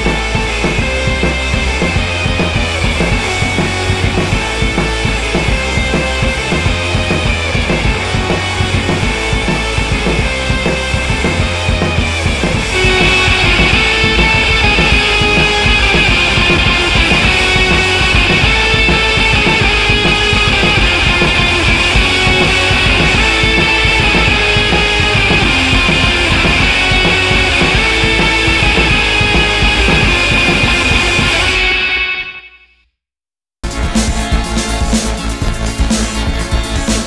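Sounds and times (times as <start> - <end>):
music with fast drum beat: 0.0 - 31.6, 33.6 - 37.0.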